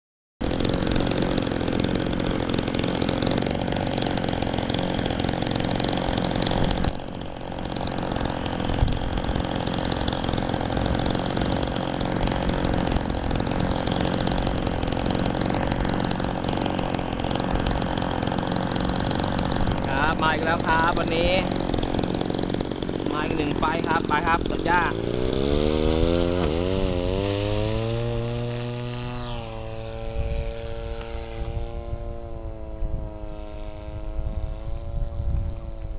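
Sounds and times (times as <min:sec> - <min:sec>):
model airplane engine running: 0:00.4 - 0:35.9.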